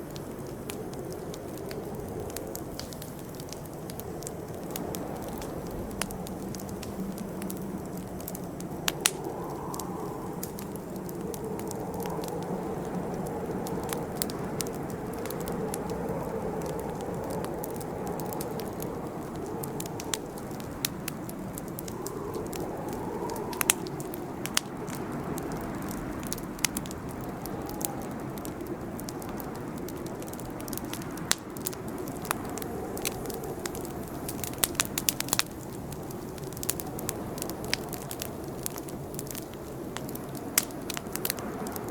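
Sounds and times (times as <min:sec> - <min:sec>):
campfire flames rushing: 0:00.0 - 0:41.9
fire crackling and popping: 0:00.0 - 0:41.9.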